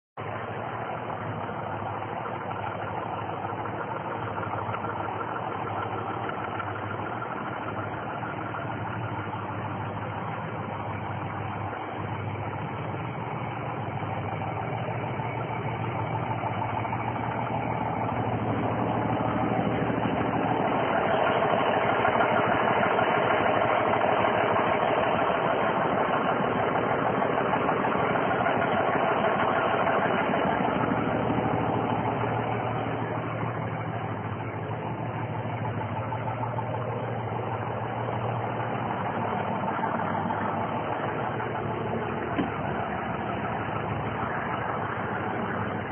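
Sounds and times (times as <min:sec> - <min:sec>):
diesel engine idling: 0:00.2 - 0:45.9.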